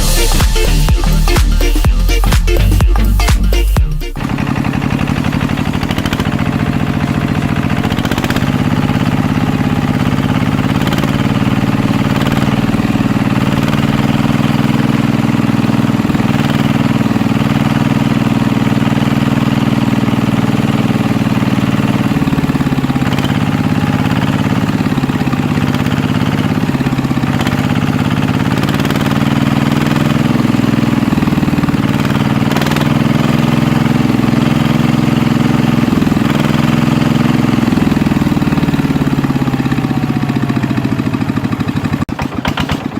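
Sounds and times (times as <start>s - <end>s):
small engine idling: 0.0s - 42.9s.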